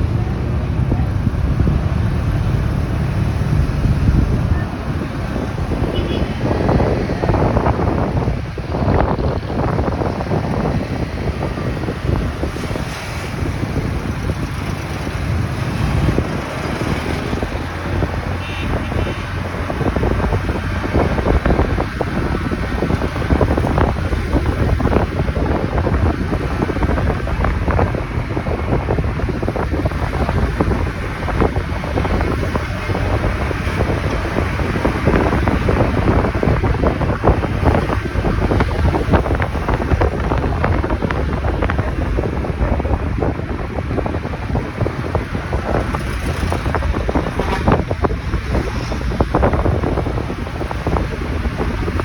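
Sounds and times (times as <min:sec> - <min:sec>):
motorcycle running: 0:00.0 - 0:52.0
wind buffeting microphone: 0:00.0 - 0:52.0.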